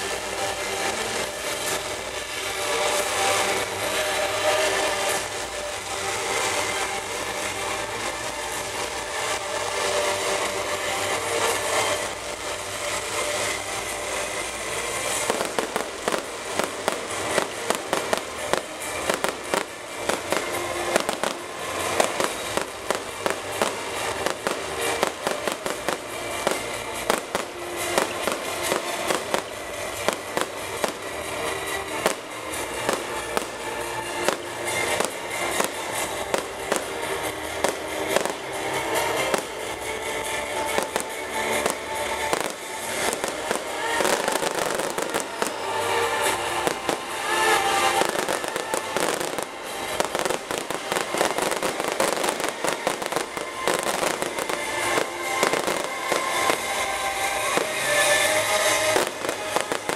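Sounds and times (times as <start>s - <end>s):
fireworks popping and banging: 0.0s - 59.9s.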